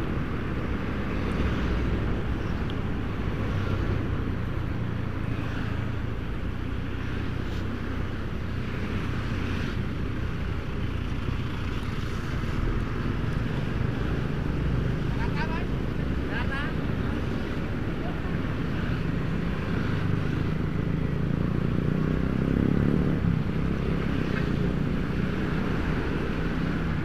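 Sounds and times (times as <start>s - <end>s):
passing vehicles: 0.0s - 27.0s.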